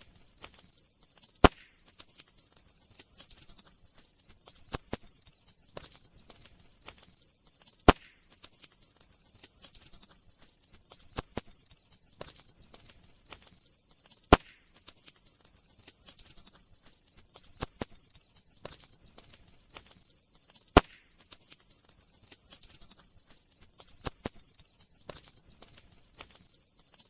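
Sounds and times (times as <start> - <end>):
burning wood popping loudly: 0.0 - 26.6
campfire crackling: 0.0 - 27.0.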